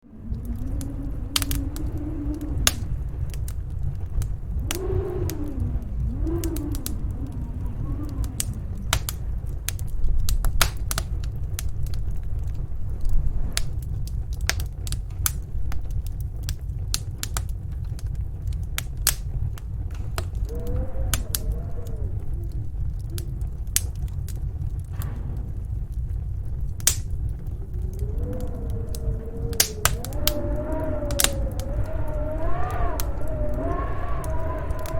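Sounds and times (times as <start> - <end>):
wind howling: 0.0 - 34.9
fireplace crackling and popping: 0.1 - 34.9.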